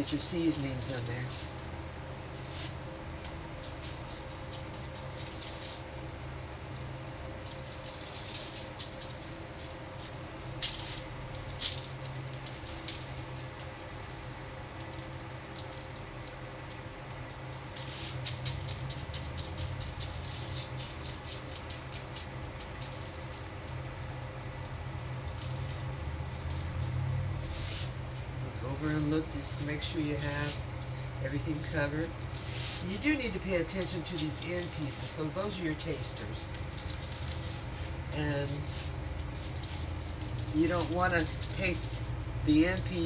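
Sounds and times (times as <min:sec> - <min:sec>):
granules rattling in shaker bottle: 0:00.0 - 0:01.8, 0:03.4 - 0:14.0, 0:14.7 - 0:43.0
steady low hum: 0:00.0 - 0:43.0.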